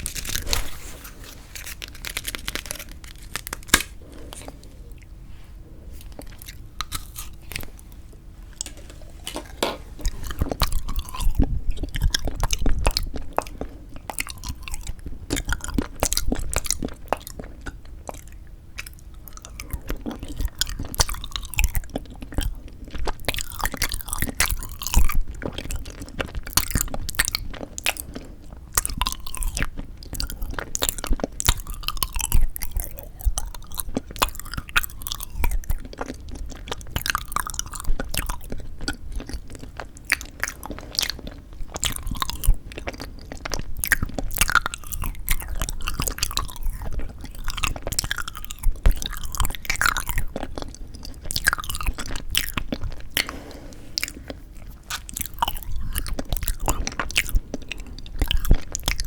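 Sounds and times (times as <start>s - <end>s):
close chewing and crunching: 0.0s - 5.2s, 5.9s - 59.0s.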